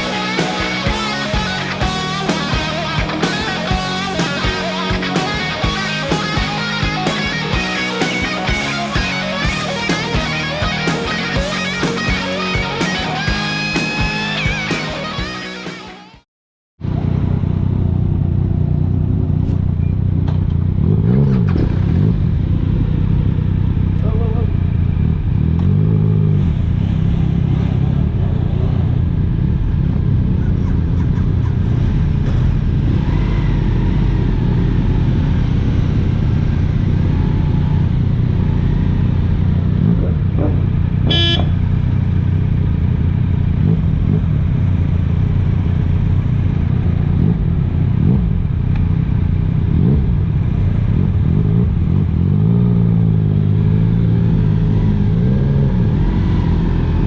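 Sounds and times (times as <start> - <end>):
motorcycle engine running: 0.0 - 16.2, 16.8 - 57.0.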